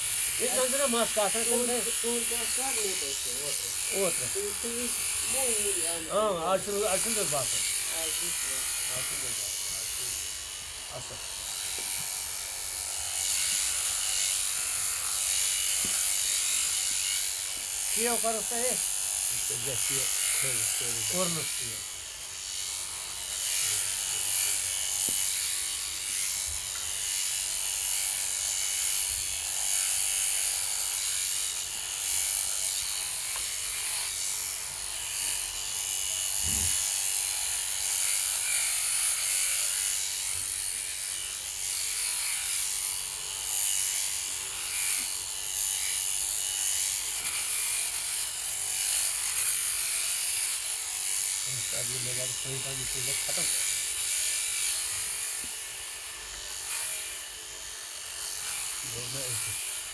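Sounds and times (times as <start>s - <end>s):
shearing handpiece buzzing hiss: 0.0s - 59.9s.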